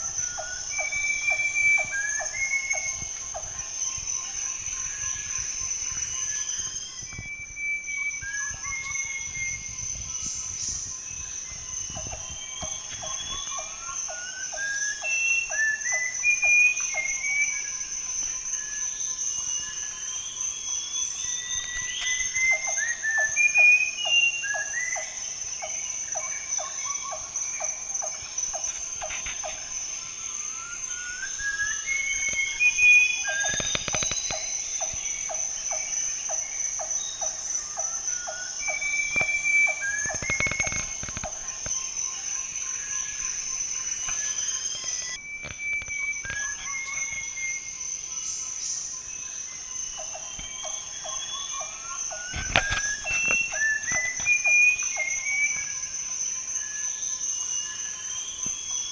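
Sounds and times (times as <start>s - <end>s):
constant high tone: 0.0s - 58.9s.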